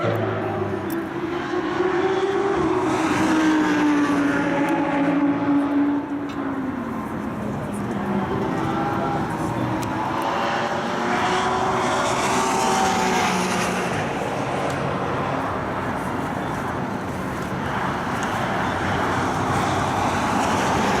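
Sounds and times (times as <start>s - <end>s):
cars driving past at speed: 0.0s - 21.0s.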